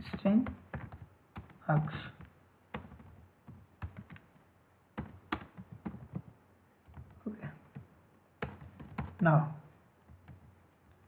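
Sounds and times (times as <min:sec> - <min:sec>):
computer keyboard typing: 0:00.0 - 0:04.4, 0:05.0 - 0:09.3, 0:10.0 - 0:11.0.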